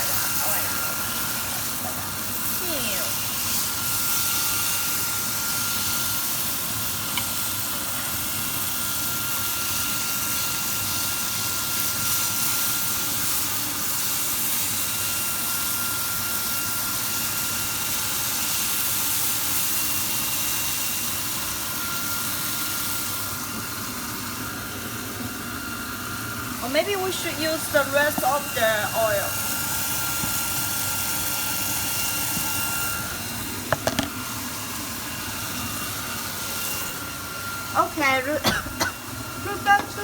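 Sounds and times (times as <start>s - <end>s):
chicken sizzling in oil: 0.0s - 40.0s.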